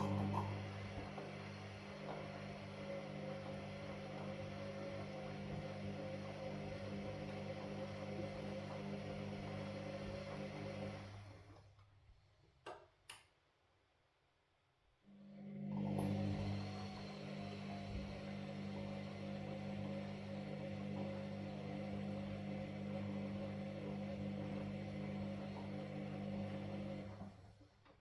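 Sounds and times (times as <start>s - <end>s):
washing machine motor humming: 0.0s - 11.6s, 15.4s - 27.6s.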